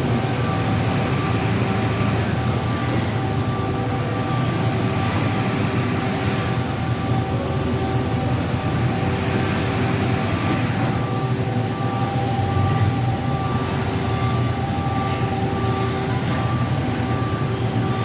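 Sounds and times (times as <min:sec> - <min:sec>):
lathe machine humming and whining: 0:00.0 - 0:18.0.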